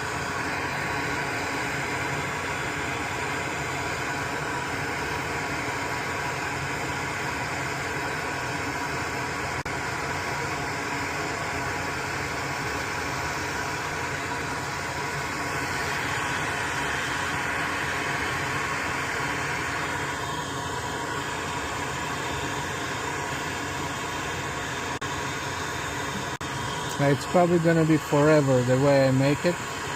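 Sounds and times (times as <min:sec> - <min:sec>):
fan hiss: 0:00.0 - 0:29.9.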